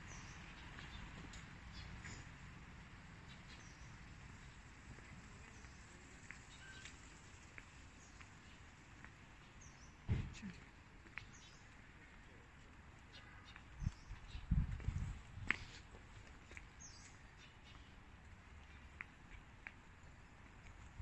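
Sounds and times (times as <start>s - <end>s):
street background rumble: 0.0s - 21.0s.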